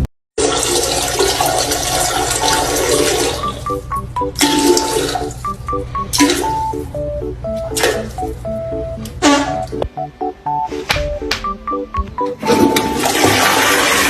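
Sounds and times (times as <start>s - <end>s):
plinking background music: 1.3s - 14.0s.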